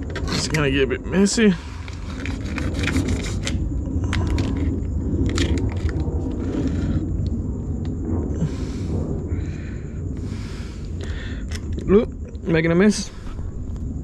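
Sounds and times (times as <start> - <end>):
low rumble: 0.0 - 14.0
rustling hiss: 0.0 - 14.0.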